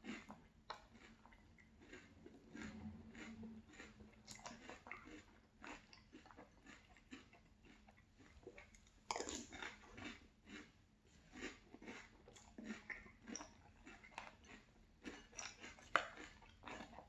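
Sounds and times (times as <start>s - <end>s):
person chewing crunchy cereal: 0.0s - 17.0s.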